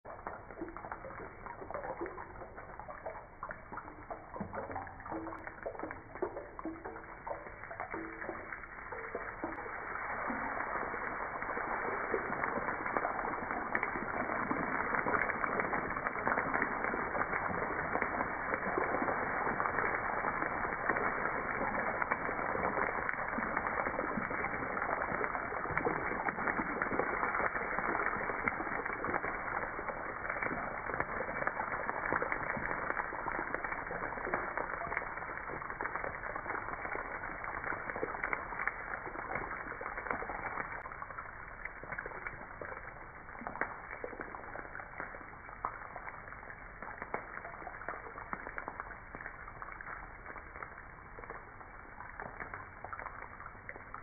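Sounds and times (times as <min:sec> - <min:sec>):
hot oil sizzling and popping: 0:00.0 - 0:54.0.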